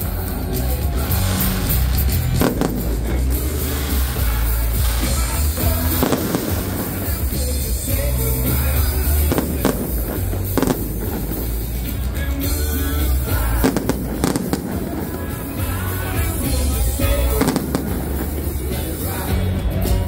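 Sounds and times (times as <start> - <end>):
fireworks bangs: 0.0 - 19.3
loud music with bass line: 0.0 - 20.0.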